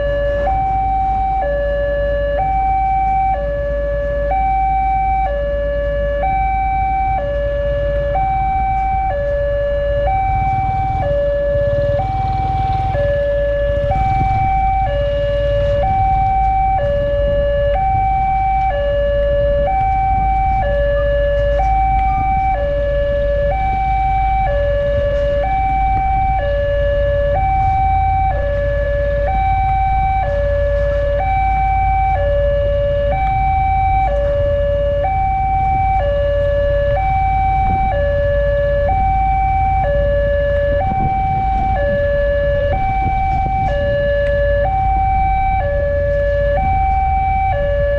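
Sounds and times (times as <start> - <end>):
two-tone level crossing alarm: 0.0 - 47.9
steady low rumble: 5.9 - 47.9.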